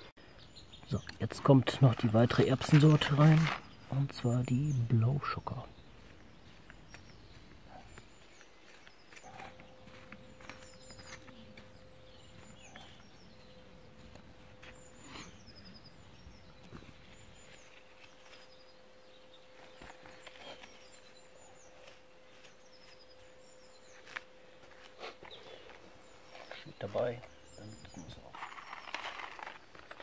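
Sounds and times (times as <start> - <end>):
faint outdoor hush: 0.0 - 30.0
songbirds singing: 0.0 - 30.0.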